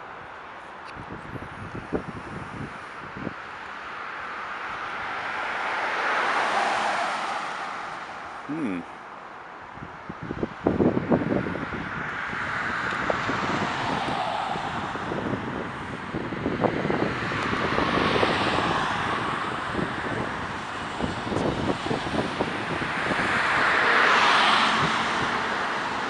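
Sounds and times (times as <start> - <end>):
cars driving past: 0.0 - 26.0.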